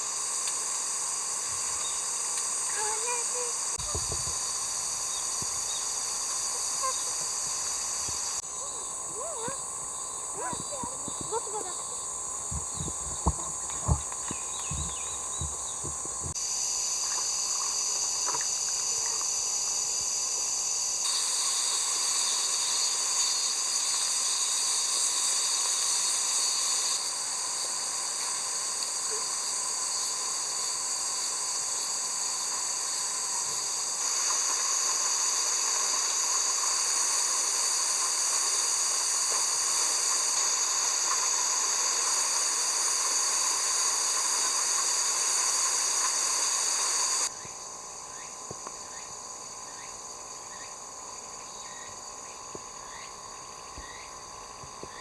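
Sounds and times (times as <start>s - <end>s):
high-pitched hiss: 0.0s - 55.0s.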